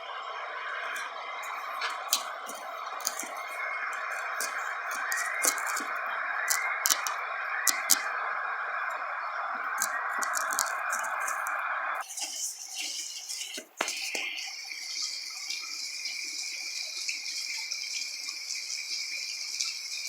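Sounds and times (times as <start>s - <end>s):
steady rain hiss: 0.0s - 20.0s
sharp drip ticks: 0.8s - 8.2s, 8.9s - 20.0s.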